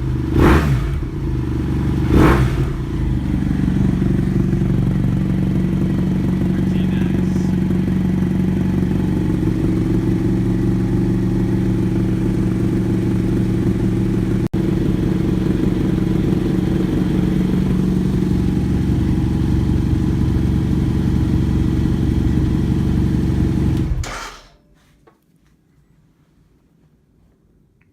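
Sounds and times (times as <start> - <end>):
motorcycle engine idling: 0.0 - 24.6.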